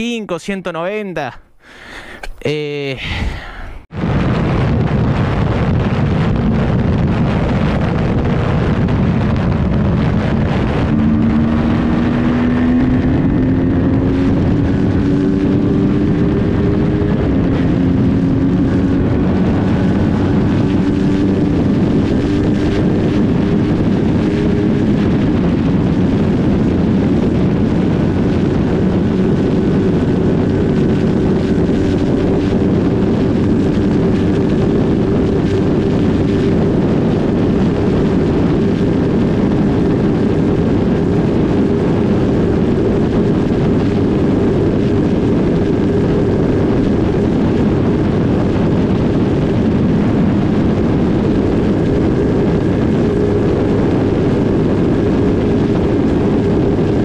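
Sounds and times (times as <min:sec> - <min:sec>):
wind rush over microphone: 0:01.7 - 0:57.0
motorcycle engine accelerating: 0:03.9 - 0:57.0.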